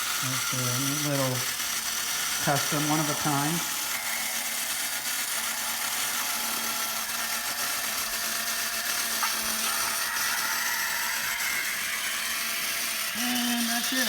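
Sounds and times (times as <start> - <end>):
toy robot motor whirring: 0.0 - 14.0.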